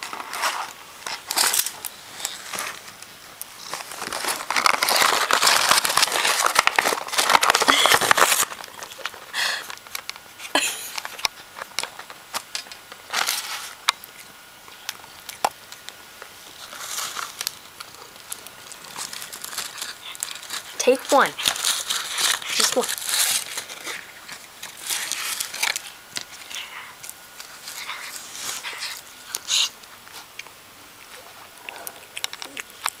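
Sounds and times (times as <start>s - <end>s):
crinkling and rustling: 0.0s - 33.0s.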